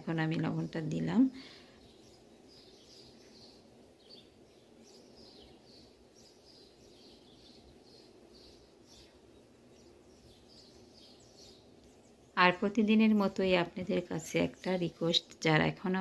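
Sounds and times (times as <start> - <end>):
faint high bird chirps: 0.0 - 16.0.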